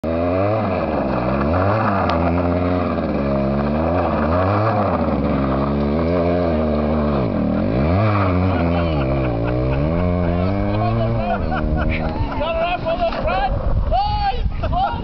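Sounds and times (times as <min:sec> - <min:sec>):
motorcycle engine revving: 0:00.0 - 0:13.1.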